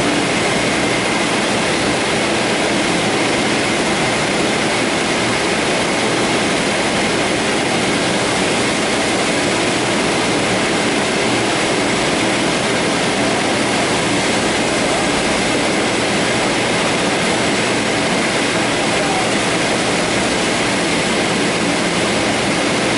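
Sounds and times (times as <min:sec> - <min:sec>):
faint steady whine: 0:00.0 - 0:22.9
grinding machine running: 0:00.0 - 0:22.9.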